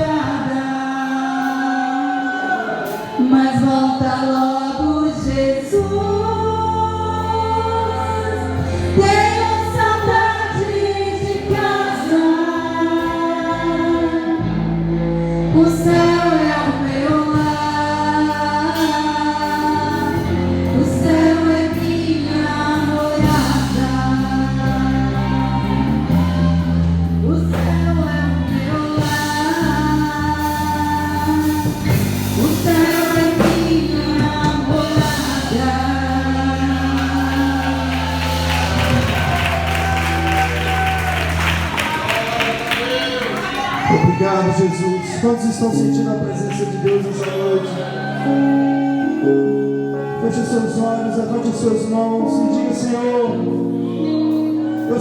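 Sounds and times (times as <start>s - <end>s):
group singing sustained notes: 0.0s - 46.4s, 47.4s - 55.0s
bass: 0.0s - 55.0s
keyboard: 0.0s - 55.0s.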